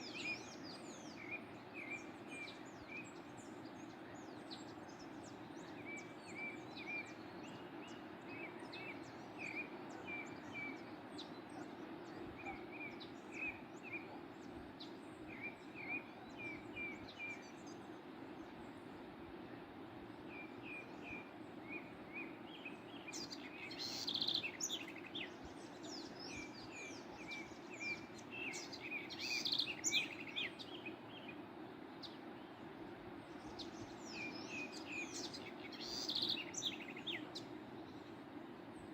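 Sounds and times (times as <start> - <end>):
small birds chirping: 0.0 - 19.0, 19.9 - 38.9.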